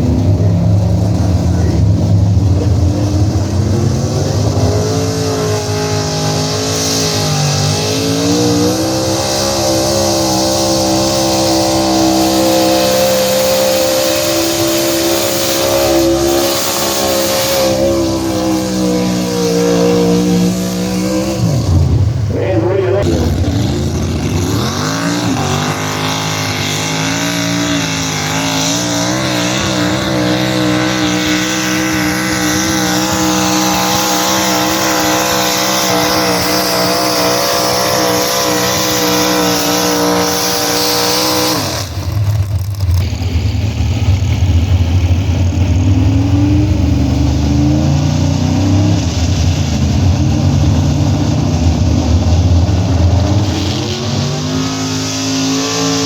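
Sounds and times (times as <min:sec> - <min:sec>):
deeper engine running: 0:00.0 - 0:56.0
truck engine revving high: 0:00.0 - 0:56.0.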